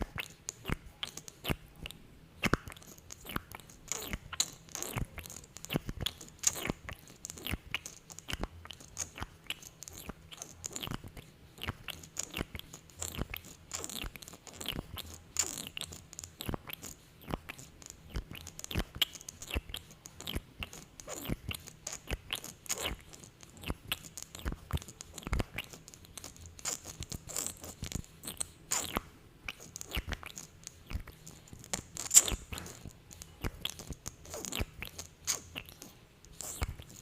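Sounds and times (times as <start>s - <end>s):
sticky lip smacks and pops: 0.0s - 37.0s.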